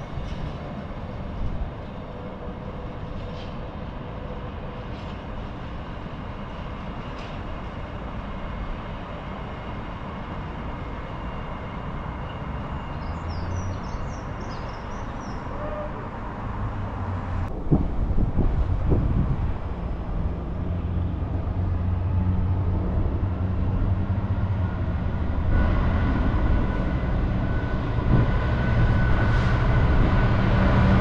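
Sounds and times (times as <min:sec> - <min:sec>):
freight train rumbling on rails: 0:00.0 - 0:31.0.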